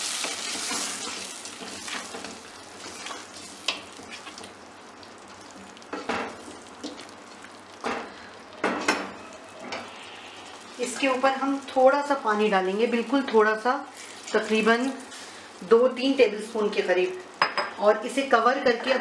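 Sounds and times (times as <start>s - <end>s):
masala sizzling in a metal pot: 0.0s - 19.0s.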